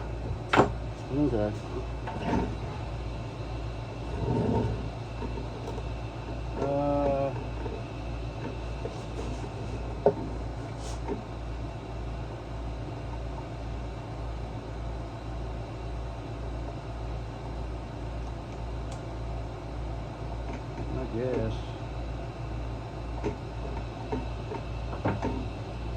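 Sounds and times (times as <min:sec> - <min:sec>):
low pulsing machine hum: 0:00.0 - 0:25.9.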